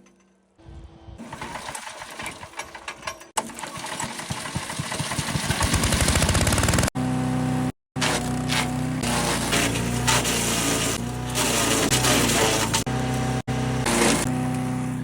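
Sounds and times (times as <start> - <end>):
wood chipper engine running: 1.2 - 15.0.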